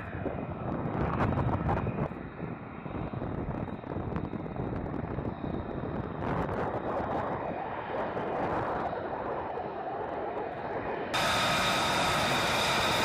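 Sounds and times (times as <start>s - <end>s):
jet engines taxiing: 0.0s - 13.0s.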